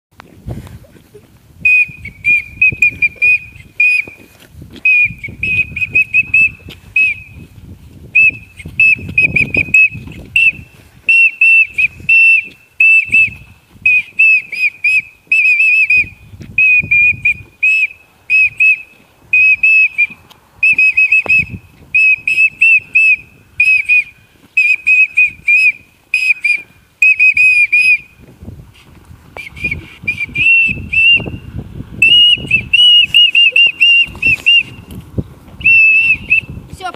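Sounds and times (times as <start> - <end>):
shrill warbling whistling: 1.6 - 4.2, 4.8 - 7.4, 8.2 - 28.1, 29.4 - 34.9, 35.6 - 36.6.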